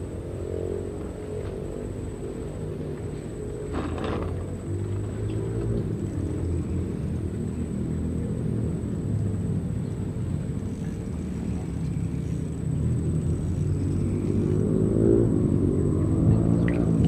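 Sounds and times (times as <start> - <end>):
motor engine rumbling: 0.0 - 17.0.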